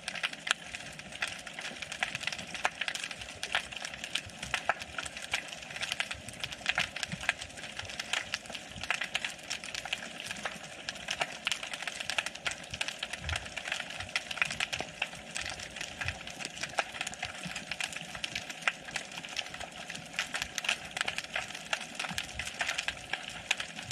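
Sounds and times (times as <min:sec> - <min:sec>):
snapping shrimp crackling underwater: 0:00.0 - 0:23.9.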